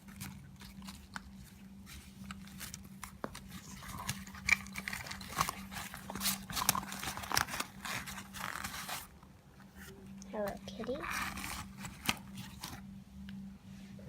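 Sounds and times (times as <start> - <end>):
items packed into a bag: 0.0 - 9.1, 10.4 - 12.8
steady low hum: 0.0 - 14.0.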